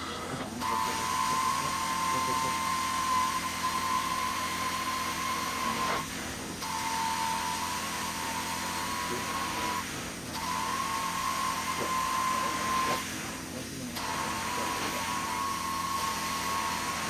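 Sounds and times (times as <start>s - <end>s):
carpet extraction wand suction: 0.0s - 17.0s.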